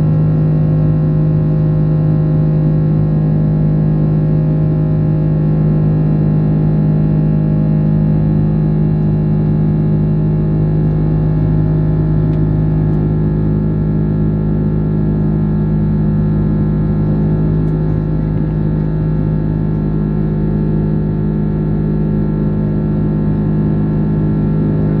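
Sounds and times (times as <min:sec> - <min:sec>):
aircraft cabin engine drone: 0:00.0 - 0:25.0
low engine hum: 0:00.0 - 0:25.0.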